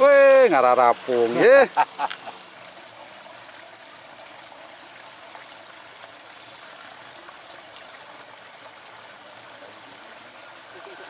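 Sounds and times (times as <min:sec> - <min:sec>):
running water hiss: 0:00.0 - 0:11.0.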